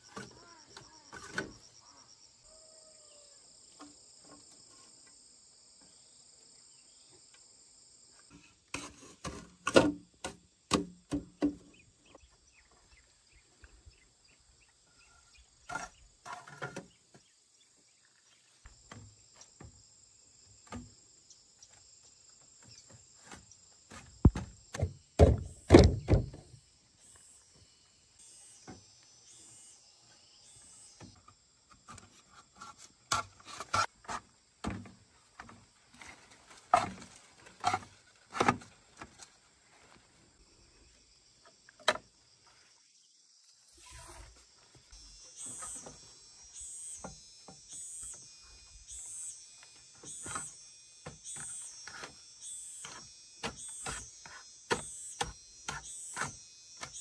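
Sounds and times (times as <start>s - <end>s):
high insect drone: 0.0s - 8.6s, 11.7s - 37.9s, 38.5s - 57.0s.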